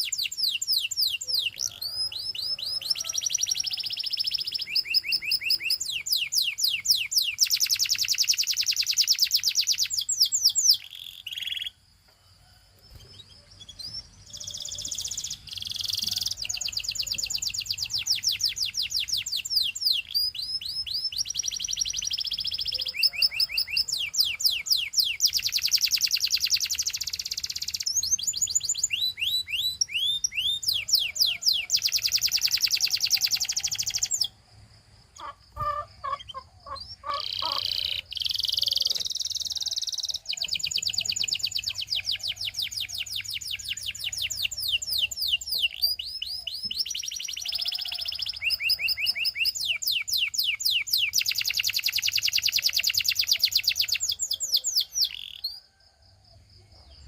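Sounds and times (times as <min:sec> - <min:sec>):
canary singing trills: 0:00.0 - 0:11.8, 0:12.8 - 0:34.4, 0:35.2 - 0:55.7.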